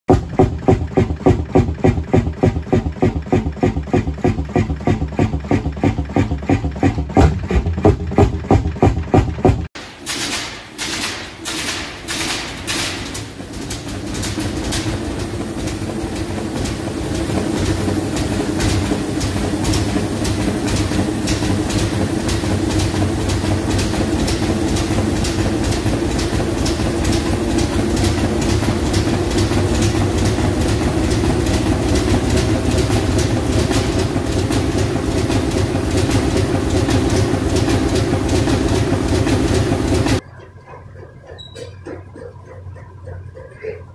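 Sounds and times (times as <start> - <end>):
diesel engine starting and running: 0.0 - 43.9.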